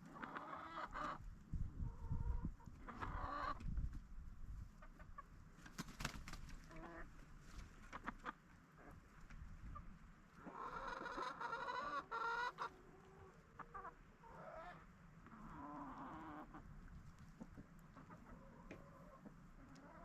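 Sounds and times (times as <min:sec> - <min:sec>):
hens clucking and calling: 0:00.0 - 0:03.8, 0:04.6 - 0:20.0.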